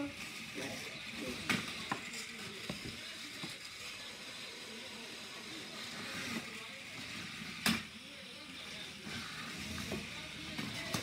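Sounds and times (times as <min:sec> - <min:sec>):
small motors whirring: 0:00.0 - 0:11.0.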